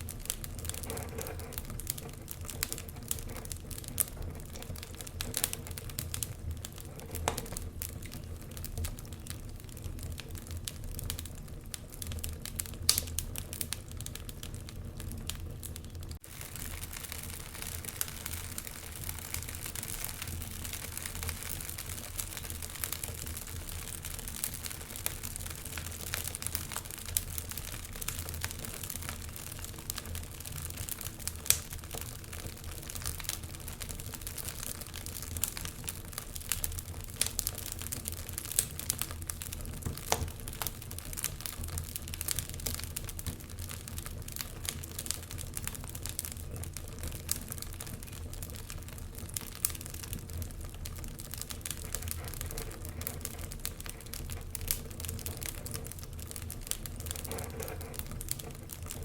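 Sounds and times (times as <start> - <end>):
low rumble of fire: 0.0 - 59.0
wood fire crackling and popping: 0.0 - 59.0.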